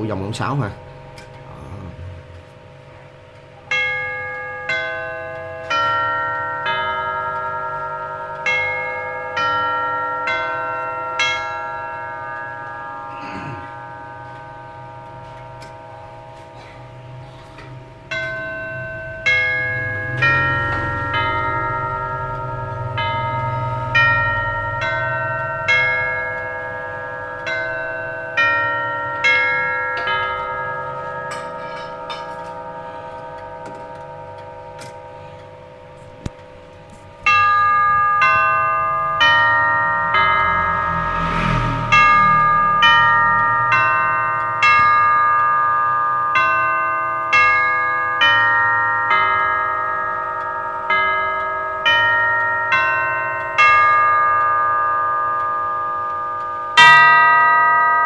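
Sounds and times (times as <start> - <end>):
grandfather clock tubular chimes: 0.0 - 58.0.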